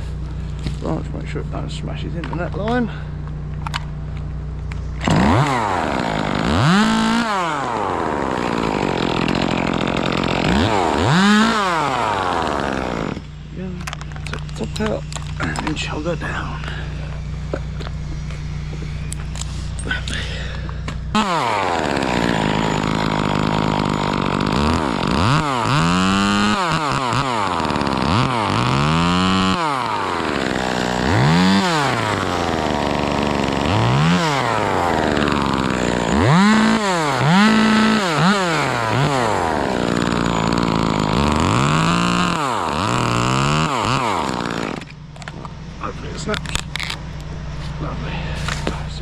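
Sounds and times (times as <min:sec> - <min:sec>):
chainsaw revving: 0:05.0 - 0:47.1.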